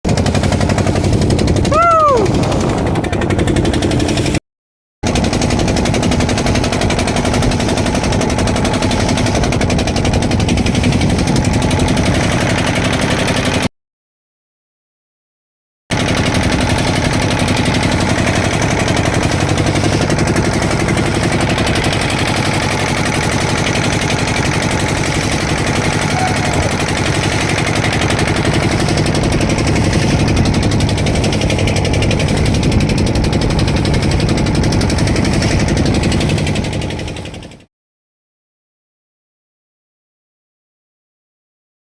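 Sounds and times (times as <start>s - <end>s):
boat engine knocking: 0.1s - 4.4s, 5.0s - 13.7s, 15.9s - 37.7s.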